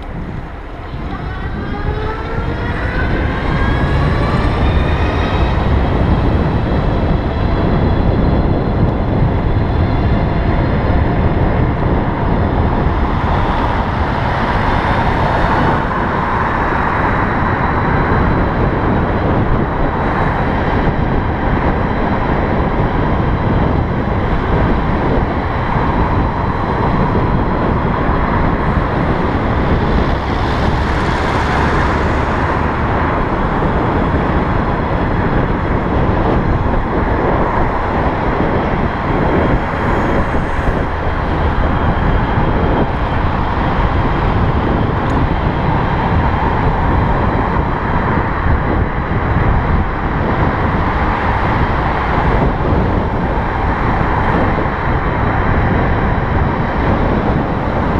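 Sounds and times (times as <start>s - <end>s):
road and traffic noise: 0.0s - 57.9s
wind rush on microphone: 0.0s - 57.9s.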